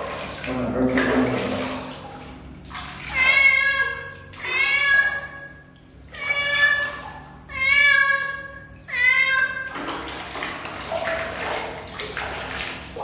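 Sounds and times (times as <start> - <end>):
water splashing in basin: 0.0 - 13.0.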